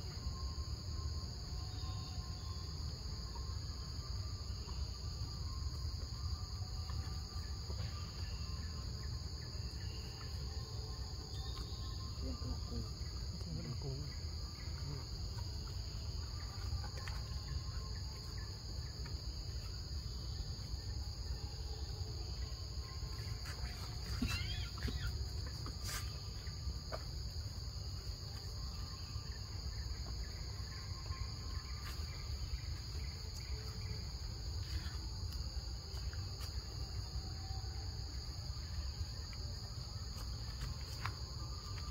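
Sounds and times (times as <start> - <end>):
insects chorus: 0.0 - 41.9.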